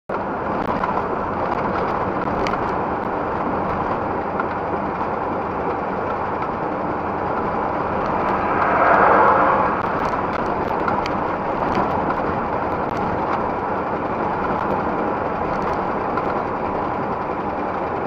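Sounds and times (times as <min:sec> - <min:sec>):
engine drone: 0:00.1 - 0:18.0.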